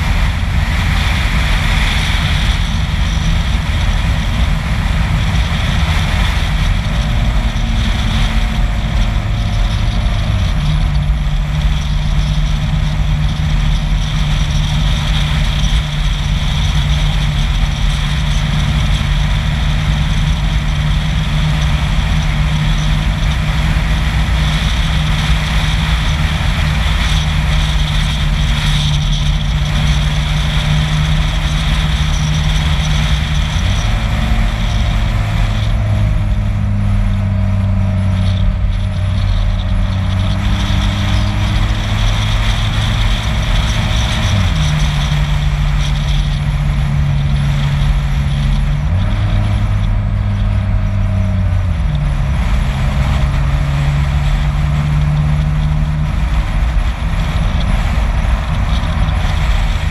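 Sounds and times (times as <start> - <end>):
low engine drone: 0.0 - 59.9
vehicle road rumble: 0.0 - 59.9.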